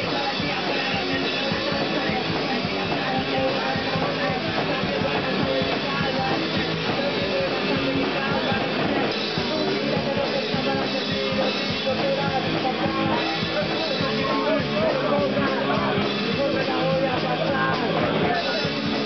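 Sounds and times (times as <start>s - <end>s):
drum kit: 0.0s - 19.0s
electric guitar: 0.0s - 19.0s
punk rock band playing: 0.0s - 19.0s.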